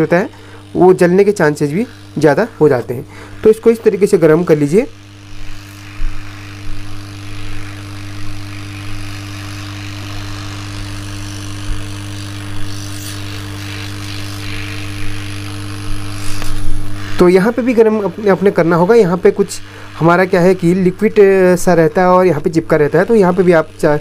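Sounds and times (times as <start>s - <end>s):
hot-air gun blowing: 0.0s - 24.0s.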